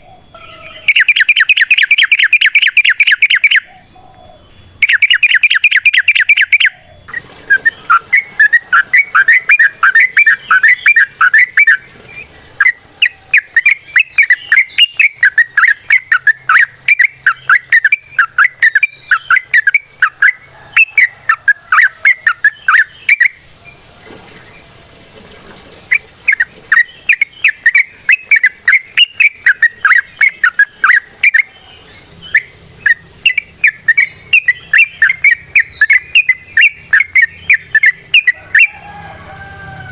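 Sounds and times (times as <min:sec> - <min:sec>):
bulbul singing fast notes: 0:00.0 - 0:03.7, 0:04.5 - 0:23.6, 0:25.9 - 0:38.8.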